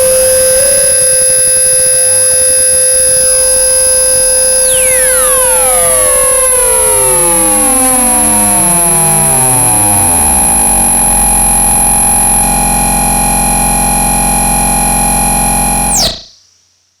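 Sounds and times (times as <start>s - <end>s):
buzzy synthesizer drone: 0.0s - 16.3s
high tone sweeping downward: 0.0s - 16.3s.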